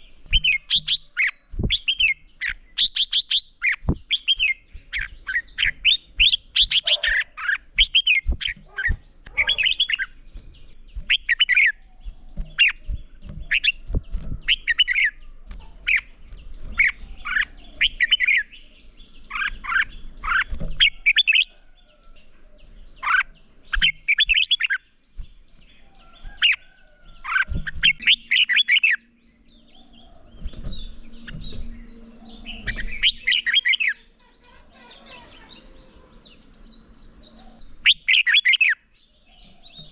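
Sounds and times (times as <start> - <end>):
birds singing warbled phrases: 0.0 - 39.9.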